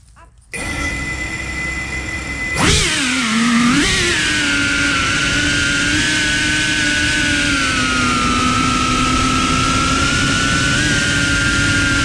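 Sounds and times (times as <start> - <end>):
drone propellers whining: 0.6 - 12.0.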